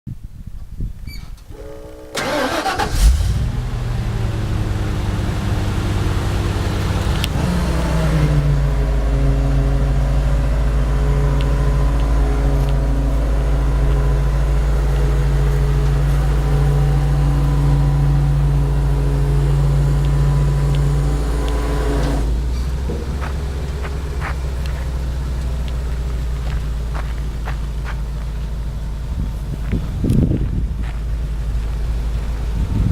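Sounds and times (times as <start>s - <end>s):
truck engine starting and revving: 1.4s - 32.9s.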